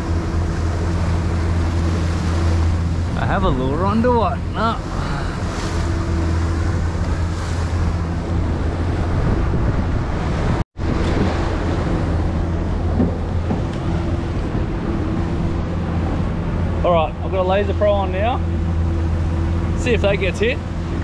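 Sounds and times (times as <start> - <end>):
boat engine drone: 0.0 - 21.0
water rushing along hull: 0.0 - 21.0
wind buffeting microphone: 0.0 - 21.0.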